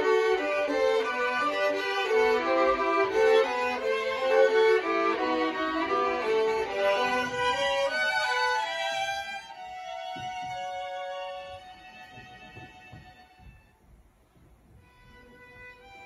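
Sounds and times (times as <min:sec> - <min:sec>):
violins playing a melody: 0:00.0 - 0:16.0.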